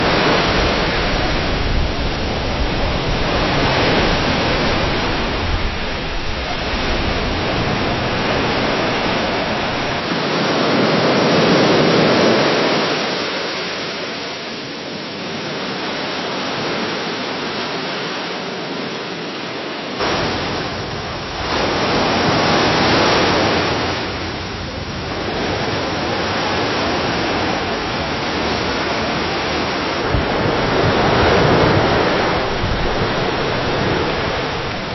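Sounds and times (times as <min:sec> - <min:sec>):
waves lapping against a dock: 0:00.0 - 0:34.9.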